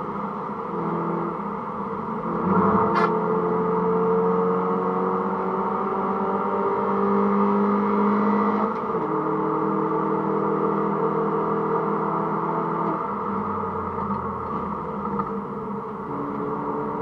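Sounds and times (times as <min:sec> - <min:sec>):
car engine heard from cabin: 0:00.0 - 0:17.0.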